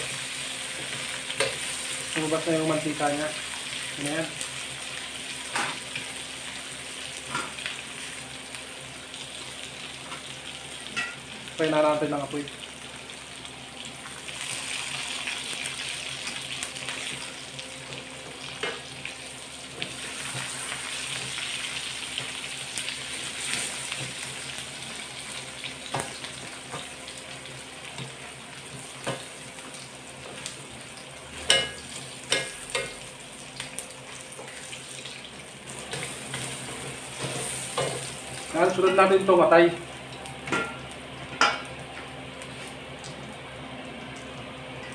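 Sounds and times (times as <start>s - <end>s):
meat sizzling in a wok: 0.0s - 44.9s.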